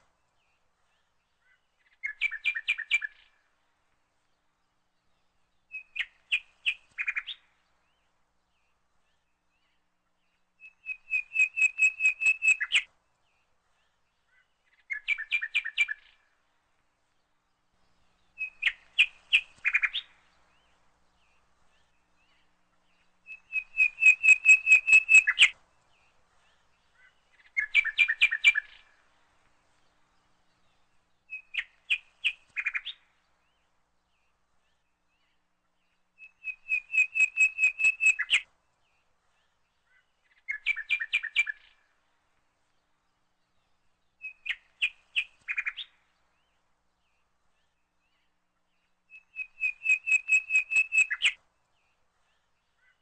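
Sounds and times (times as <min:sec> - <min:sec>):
bird singing: 0:00.5 - 0:03.5, 0:05.0 - 0:16.4, 0:17.1 - 0:29.0, 0:30.3 - 0:42.0, 0:42.6 - 0:53.0.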